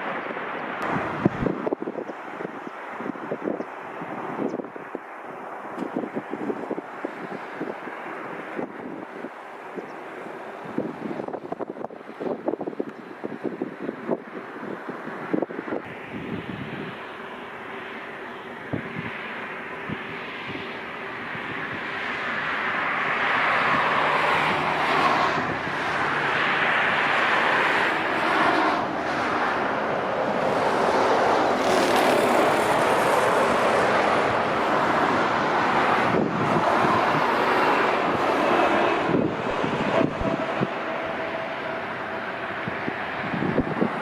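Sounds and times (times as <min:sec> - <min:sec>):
wind buffeting microphone: 0:00.0 - 0:17.1, 0:18.5 - 0:44.0
jet airliner engines passing: 0:00.0 - 0:44.0.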